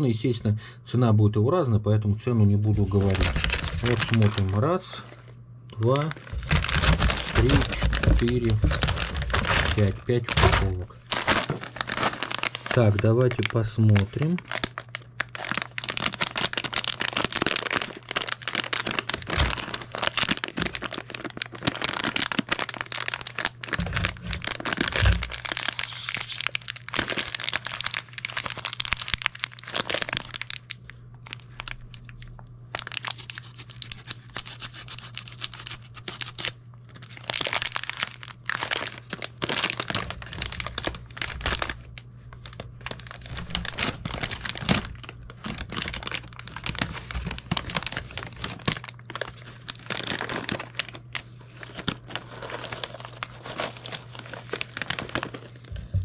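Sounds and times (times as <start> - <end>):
snack packets crinkling: 2.6 - 56.0
packet tearing open: 2.8 - 4.8, 5.8 - 55.7.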